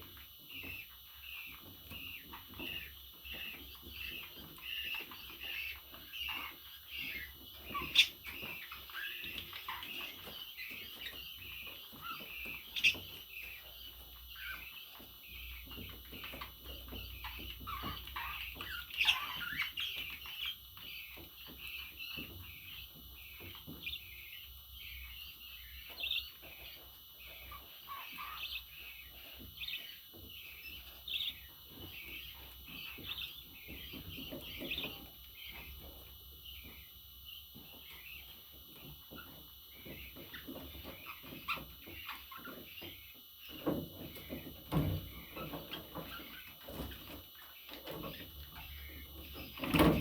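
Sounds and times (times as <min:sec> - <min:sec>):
budgerigar chirping: 0:00.0 - 0:50.0.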